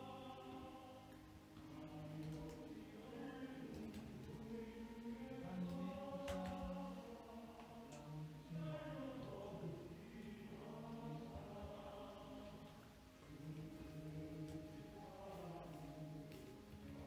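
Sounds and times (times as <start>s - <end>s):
congregation singing a hymn: 0.0s - 17.0s.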